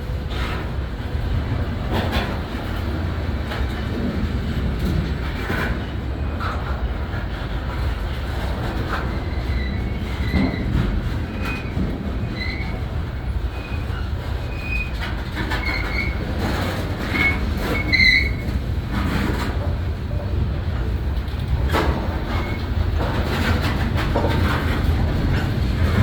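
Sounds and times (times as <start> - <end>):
train cars rumbling: 0.0 - 26.0.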